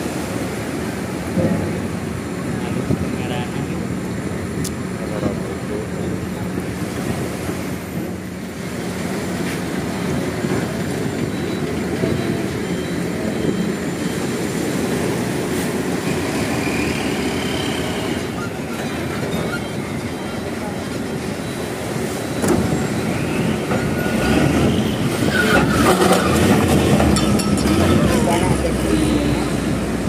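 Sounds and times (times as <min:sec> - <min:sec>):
heavy truck diesel engines rumbling: 0:00.0 - 0:30.0.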